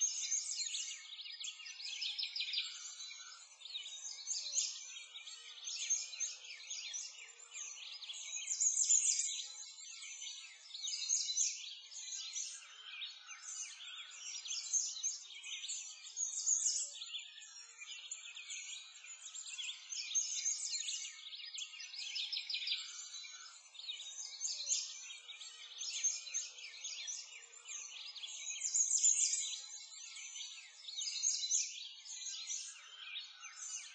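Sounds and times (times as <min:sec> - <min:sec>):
small birds chirping and singing: 0:00.0 - 0:33.9.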